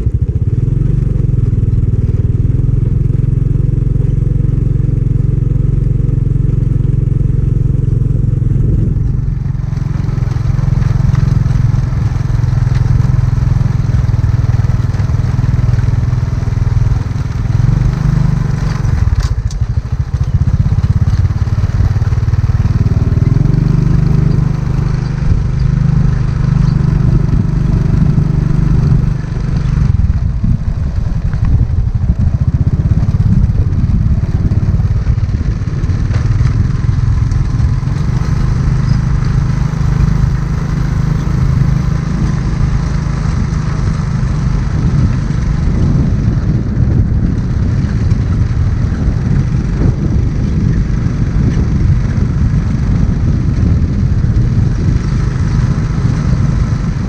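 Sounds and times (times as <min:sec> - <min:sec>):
small motorbike engine running: 0:00.0 - 0:57.0
wind and road noise: 0:00.0 - 0:57.0.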